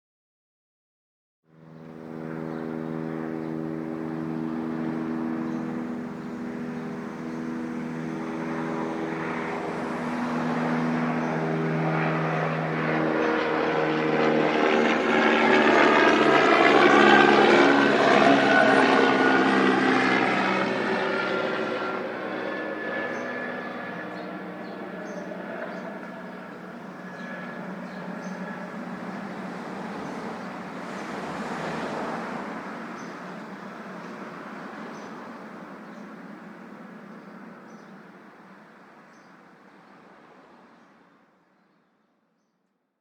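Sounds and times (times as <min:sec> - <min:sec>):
helicopter passing by: 0:01.5 - 0:41.2.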